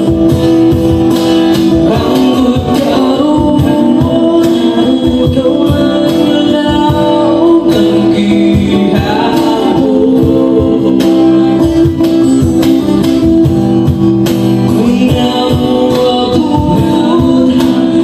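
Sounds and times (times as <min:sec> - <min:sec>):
cajon beat: 0:00.0 - 0:18.0
strummed acoustic guitar: 0:00.0 - 0:18.0
man singing into a microphone: 0:01.5 - 0:13.3, 0:14.5 - 0:18.0.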